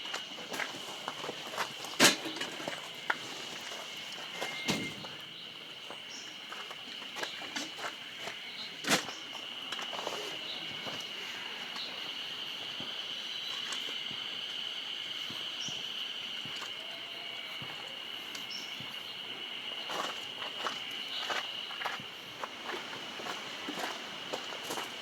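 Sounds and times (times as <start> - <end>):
high-pitched insect drone: 2.7 - 25.0.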